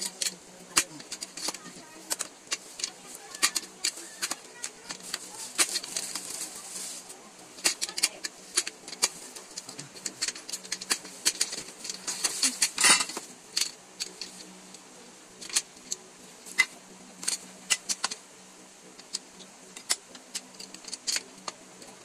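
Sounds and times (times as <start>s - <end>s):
chair parts clicking and clinking: 0.0s - 14.8s, 15.4s - 22.0s.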